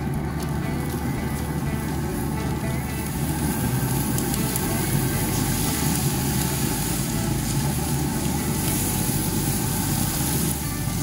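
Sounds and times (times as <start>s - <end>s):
chicken searing on grill: 0.0s - 11.0s
pellet smoker hum and rush: 0.0s - 11.0s.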